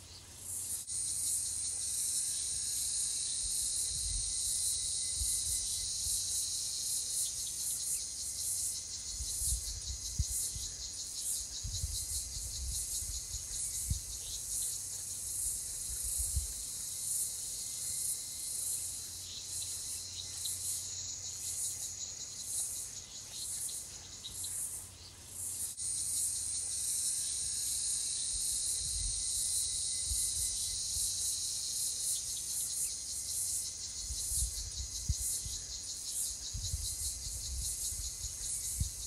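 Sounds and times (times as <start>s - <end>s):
insect pulsing trill: 0.0s - 39.0s.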